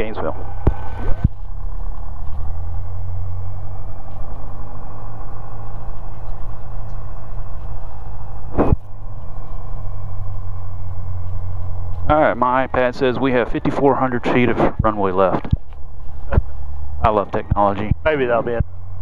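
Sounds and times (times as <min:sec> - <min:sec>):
faint high whine: 0:00.0 - 0:19.0
light aircraft engine droning: 0:00.0 - 0:19.0.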